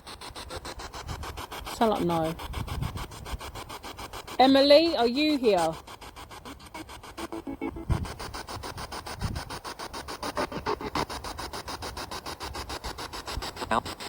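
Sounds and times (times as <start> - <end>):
rasping radio static chopping: 0.0 - 14.0.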